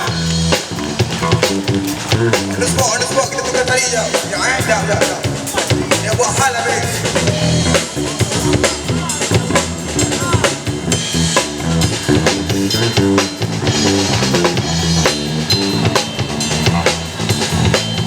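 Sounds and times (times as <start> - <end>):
drum kit beat: 0.0 - 18.0
electric bass line: 0.0 - 18.0.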